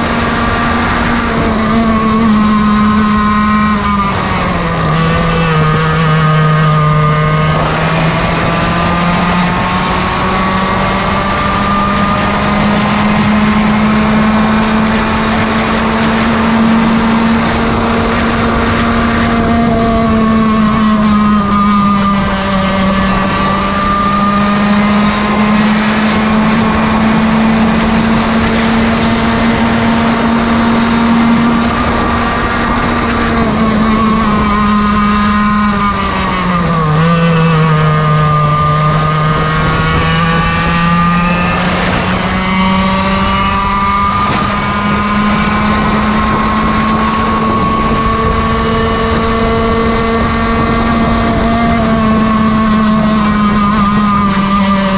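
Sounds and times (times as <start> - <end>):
kart engine at high revs: 0.0 - 54.9.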